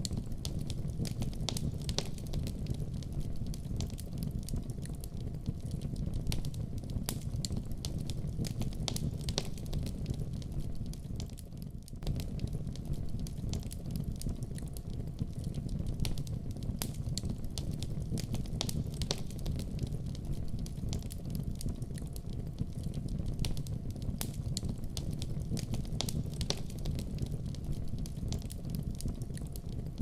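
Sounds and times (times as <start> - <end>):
fire pops and crackles: 0.0 - 30.0
wood fire rumbling: 0.0 - 30.0.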